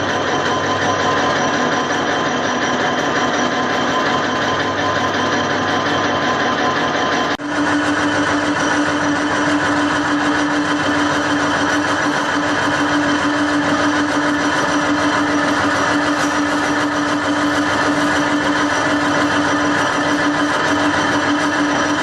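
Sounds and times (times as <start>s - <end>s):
mixer machine motor humming: 0.0s - 22.0s.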